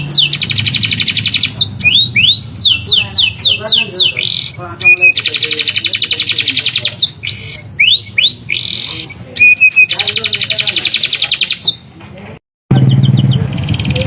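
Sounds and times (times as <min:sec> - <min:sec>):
canary singing: 0:00.0 - 0:12.0, 0:12.7 - 0:14.0.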